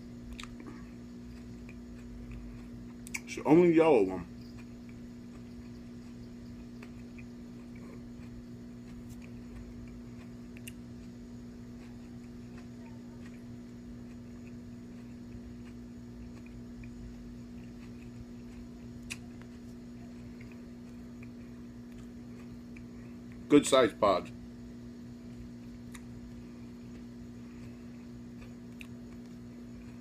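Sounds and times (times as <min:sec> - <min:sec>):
steady low hum: 0:00.0 - 0:30.0
chewing and mouth clicks: 0:00.2 - 0:23.5, 0:25.2 - 0:30.0.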